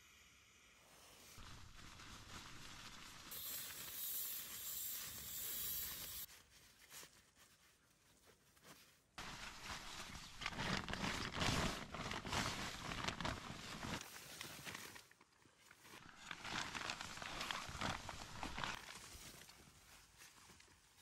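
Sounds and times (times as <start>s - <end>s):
nylon gear rustling and crinkling: 1.4s - 21.0s.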